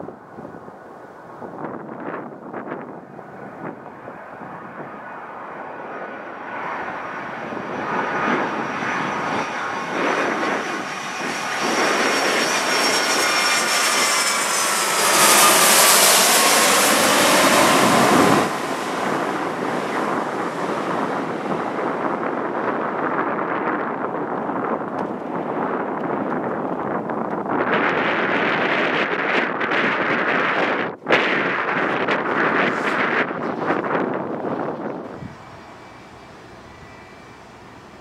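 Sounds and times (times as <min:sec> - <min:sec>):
jet engines passing: 0:00.0 - 0:38.0.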